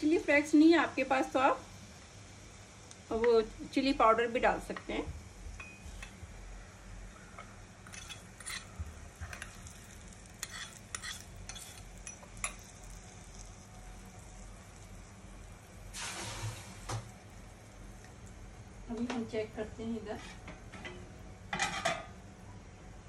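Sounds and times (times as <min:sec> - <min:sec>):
spices sizzling in hot oil: 0:00.0 - 0:22.4.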